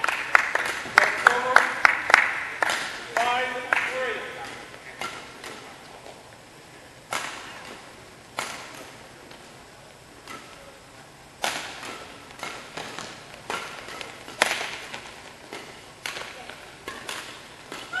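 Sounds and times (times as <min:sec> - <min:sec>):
racquets hitting shuttlecock: 0:00.0 - 0:06.3, 0:07.0 - 0:10.8, 0:11.4 - 0:18.0.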